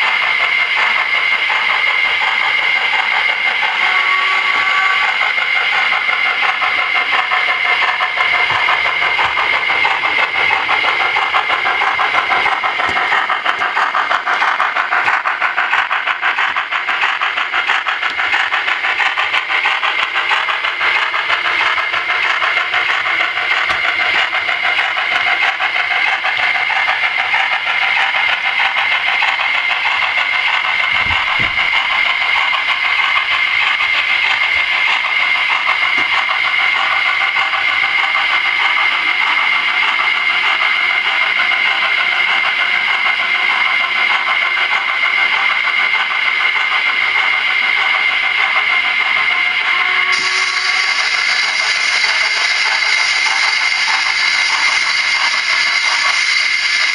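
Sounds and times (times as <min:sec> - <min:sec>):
model train whine: 0:00.0 - 0:56.9.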